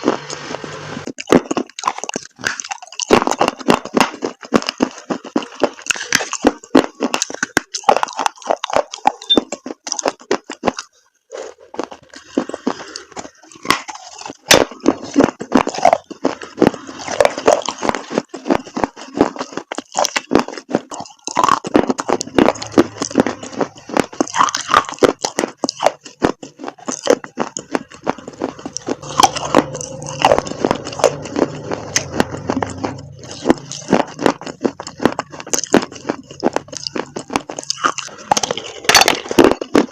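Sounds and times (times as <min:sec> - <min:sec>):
dried chalk paste crunching: 0:00.0 - 0:39.9.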